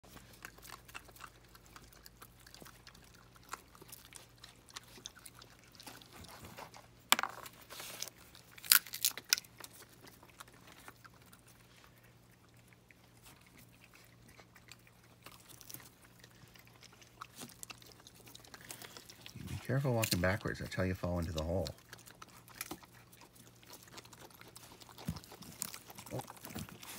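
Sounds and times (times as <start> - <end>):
raccoons crunching dry food: 0.0 - 26.9.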